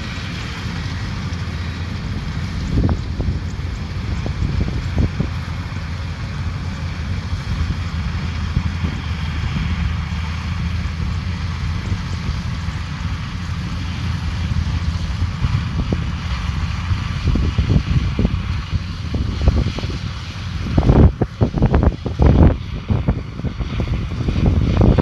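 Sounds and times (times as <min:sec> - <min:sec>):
combine harvester engine hum: 0:00.0 - 0:25.0
wind buffeting microphone: 0:00.0 - 0:25.0.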